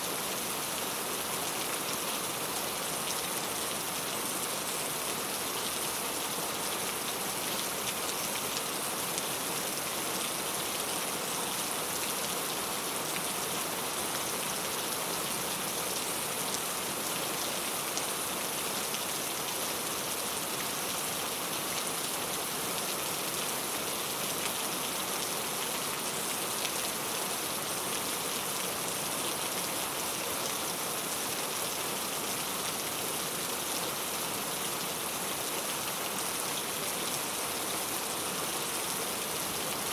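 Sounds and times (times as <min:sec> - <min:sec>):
rain on a tile roof: 0:00.0 - 0:39.9.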